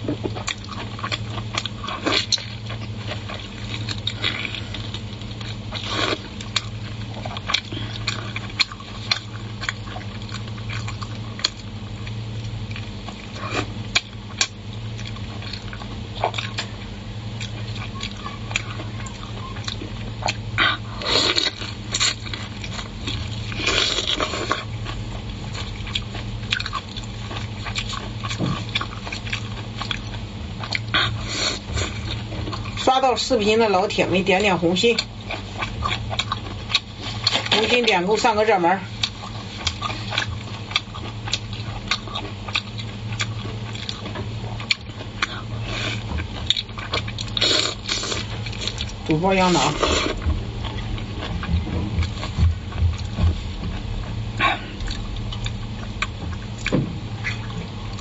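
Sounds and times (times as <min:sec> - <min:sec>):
close-up chewing: 0:00.0 - 0:58.0
low hum: 0:00.0 - 0:58.0.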